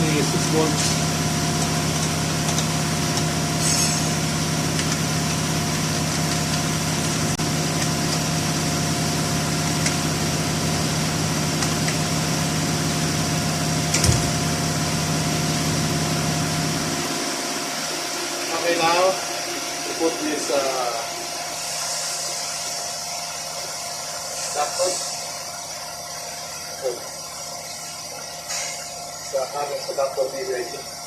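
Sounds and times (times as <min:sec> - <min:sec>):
motor humming: 0:00.0 - 0:31.0.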